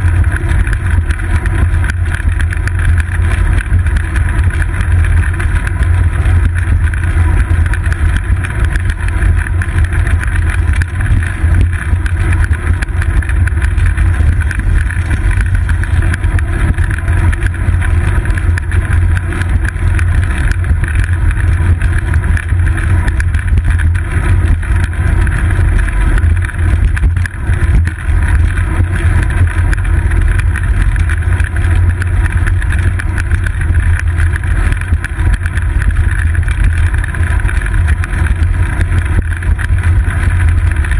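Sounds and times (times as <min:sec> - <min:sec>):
bicycle frame vibrating on paving: 0:00.0 - 0:40.9.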